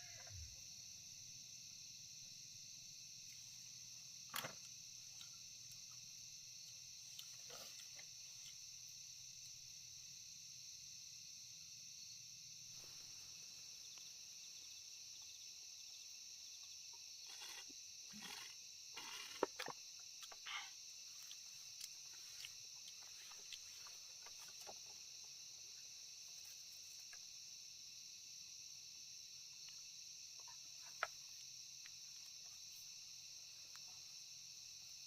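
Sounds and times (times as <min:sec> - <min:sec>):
night insects chirping: 0:00.0 - 0:35.0.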